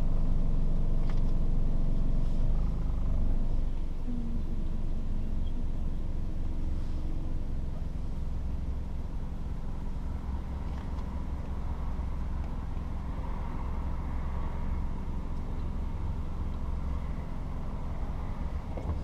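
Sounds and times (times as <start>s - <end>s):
vehicle rumble in motion: 0.0s - 19.0s.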